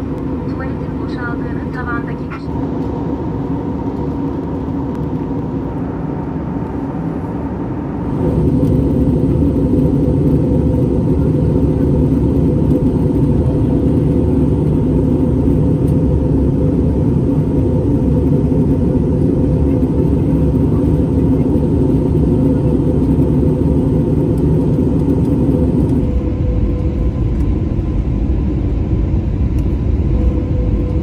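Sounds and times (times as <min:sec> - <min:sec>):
airplane cabin engine drone: 0:00.0 - 0:31.0
constant low hum: 0:00.0 - 0:31.0.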